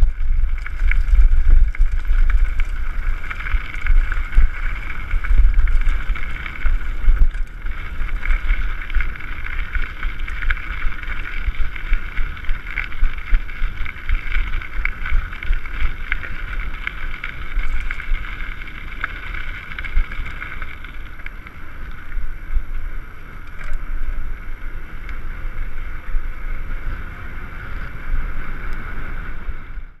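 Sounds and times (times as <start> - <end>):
bike rattling over dirt track: 0.0 - 29.9
wind buffeting microphone: 0.0 - 30.0.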